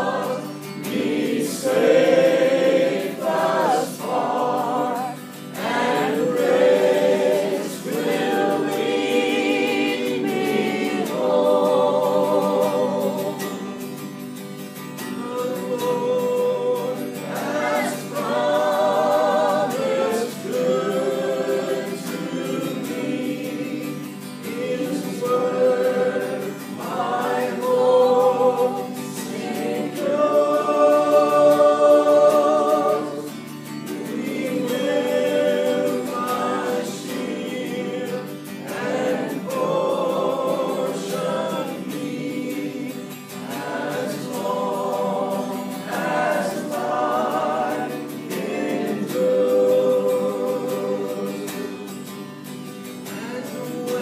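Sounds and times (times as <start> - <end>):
group singing a hymn: 0.0 - 54.0.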